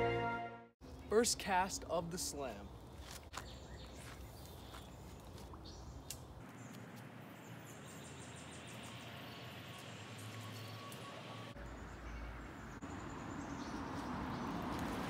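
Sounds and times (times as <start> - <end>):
steady outdoor hiss: 0.8 - 15.0.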